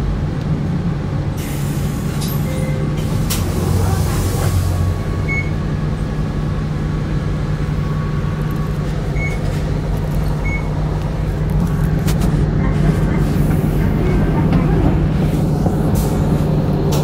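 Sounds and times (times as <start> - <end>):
bus engine droning: 0.0 - 17.0.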